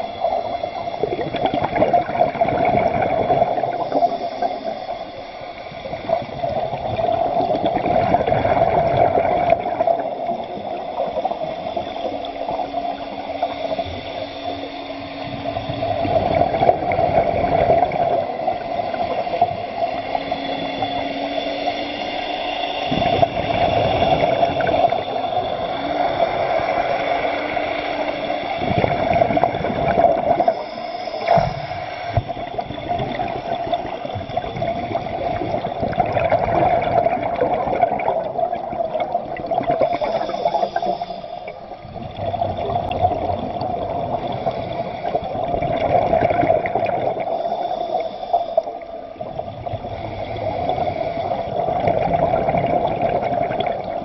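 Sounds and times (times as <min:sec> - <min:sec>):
water rushing and gurgling: 0:00.0 - 0:54.0.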